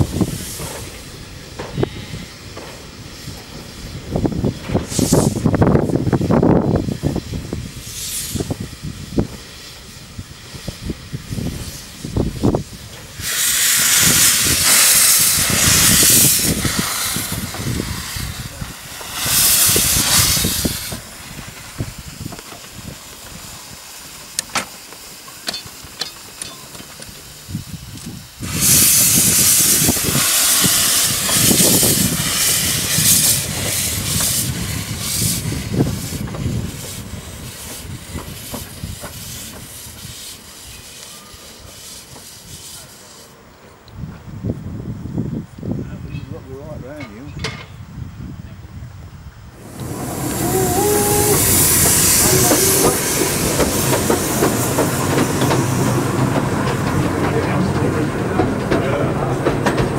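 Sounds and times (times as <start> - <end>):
steam locomotive hissing steam: 0.0 - 43.8, 49.5 - 59.9
low rumble of locomotive: 0.0 - 59.9.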